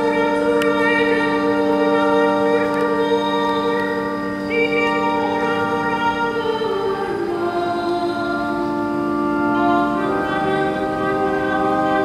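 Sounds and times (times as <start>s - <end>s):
church choir singing: 0.0s - 12.0s.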